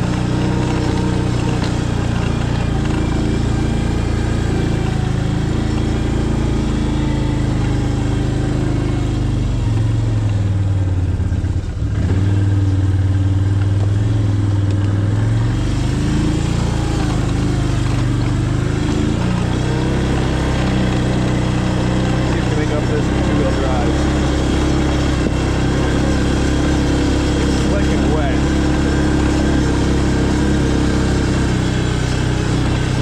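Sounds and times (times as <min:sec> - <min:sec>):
small vehicle engine running: 0:00.0 - 0:33.0.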